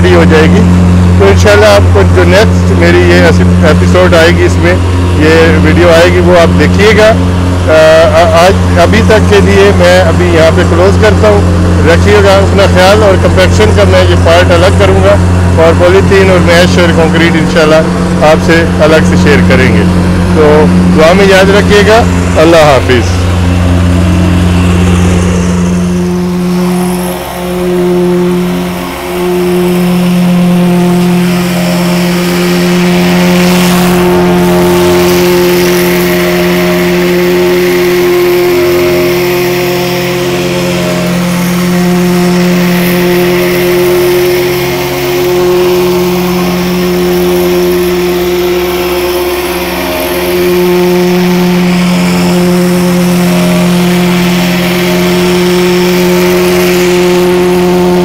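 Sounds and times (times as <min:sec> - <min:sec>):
plate compactor engine drone: 0:00.0 - 0:58.0.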